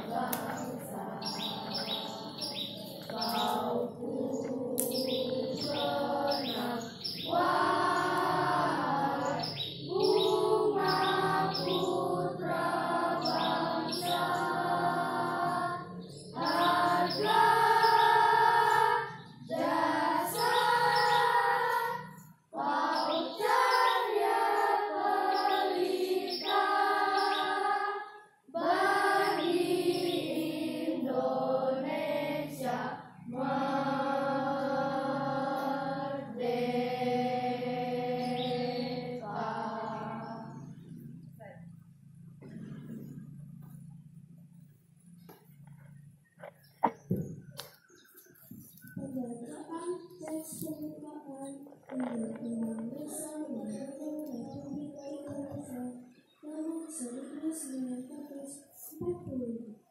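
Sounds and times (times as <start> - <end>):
children's choir singing: 0.0 - 41.2, 48.0 - 59.3.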